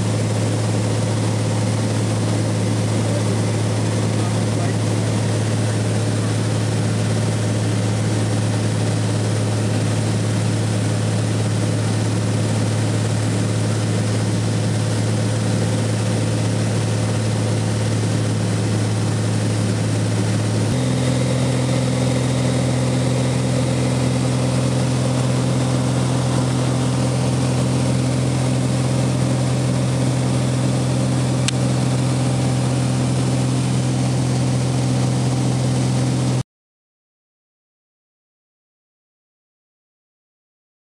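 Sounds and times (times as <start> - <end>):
propeller plane engine droning: 0.0 - 36.4.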